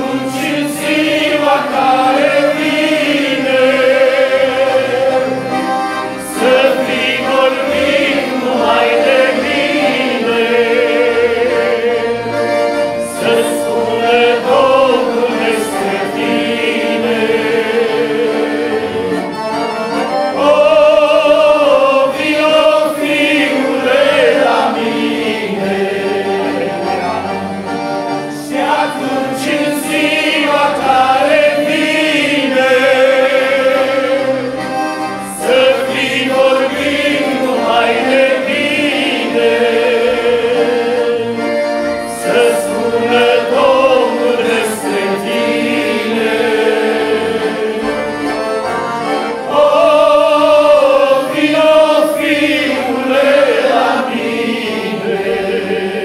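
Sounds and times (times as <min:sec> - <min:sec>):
men singing a hymn in harmony: 0:00.0 - 0:27.4, 0:28.3 - 0:56.0
accordions: 0:00.0 - 0:56.0.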